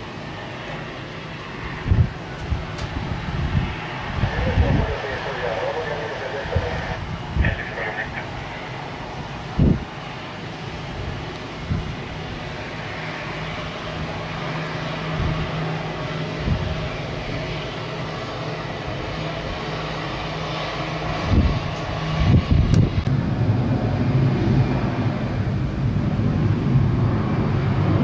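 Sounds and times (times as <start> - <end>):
jet engines rushing hum: 0.0 - 28.0.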